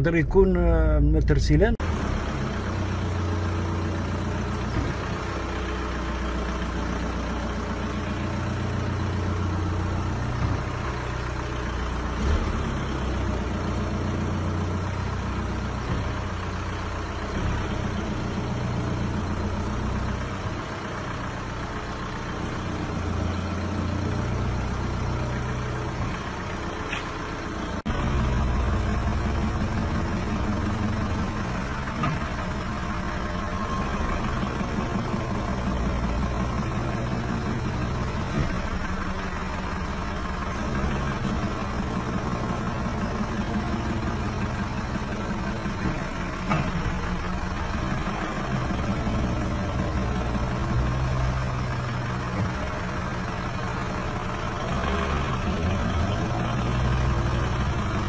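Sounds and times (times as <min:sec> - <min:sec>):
car engine idling: 0:00.0 - 0:58.0
light clunks under braking: 0:01.4 - 0:58.0.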